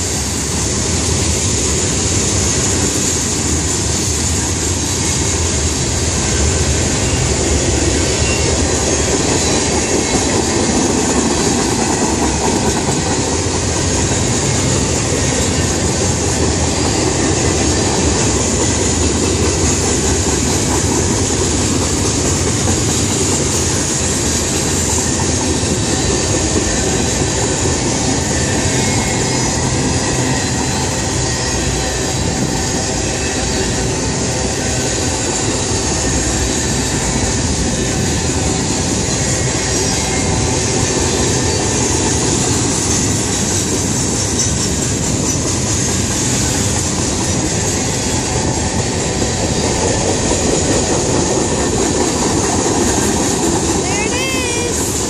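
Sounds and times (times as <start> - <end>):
train wheels clattering on rail: 0.0 - 55.0.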